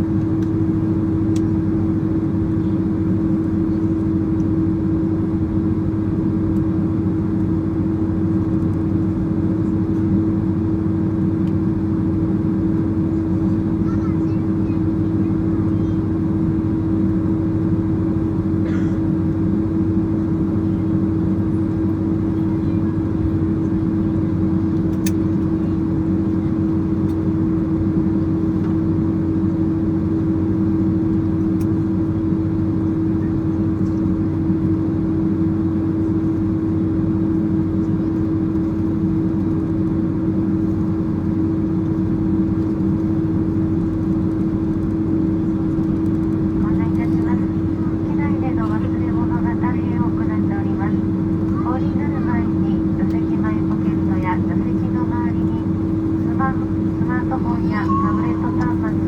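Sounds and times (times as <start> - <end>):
jet engine drone: 0.0 - 59.0.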